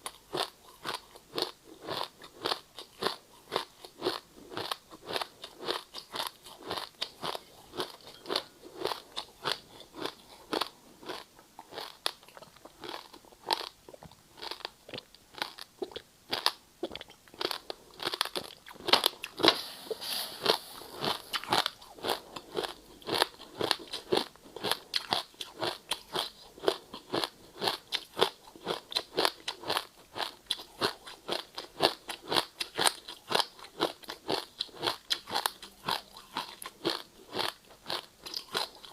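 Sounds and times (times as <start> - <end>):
ice being chewed: 0.0 - 19.6, 20.4 - 38.9.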